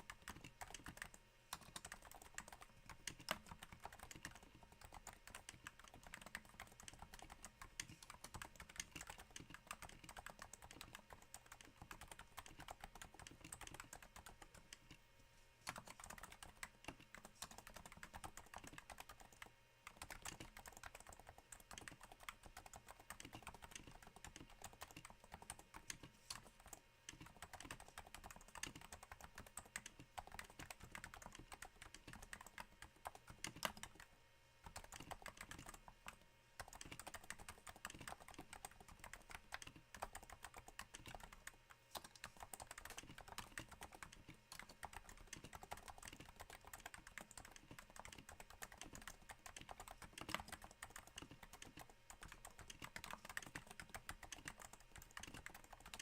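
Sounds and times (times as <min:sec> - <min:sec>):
soft keyboard typing: 0:00.0 - 0:56.0.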